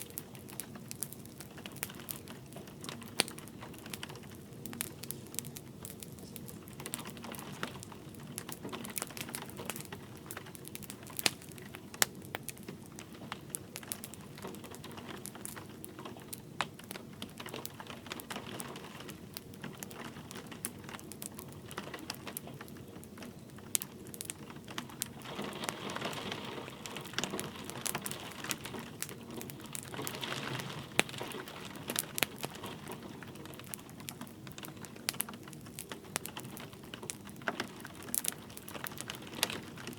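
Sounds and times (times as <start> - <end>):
light rain hiss: 0.0 - 39.9
wood fire crackling: 0.0 - 39.9.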